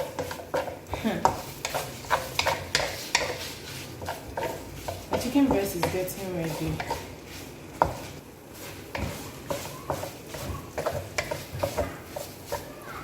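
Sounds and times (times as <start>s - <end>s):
chicken sizzling in a pan: 0.0s - 13.0s
utensil scraping a pan: 0.0s - 13.0s.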